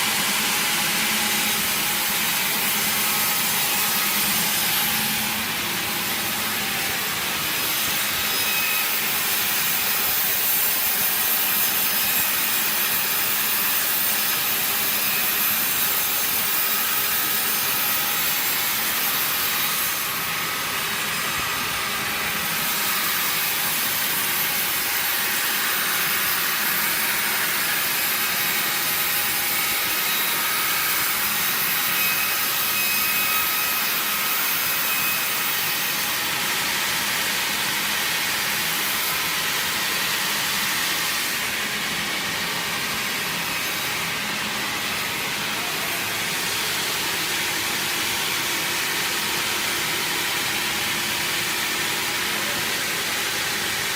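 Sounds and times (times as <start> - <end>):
sawmill saw cutting timber: 0.0 - 53.9.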